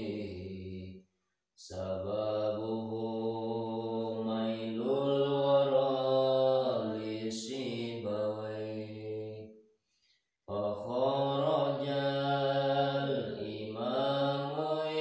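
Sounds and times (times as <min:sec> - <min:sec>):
man chanting: 0:00.0 - 0:00.9, 0:01.6 - 0:09.4, 0:10.5 - 0:15.0.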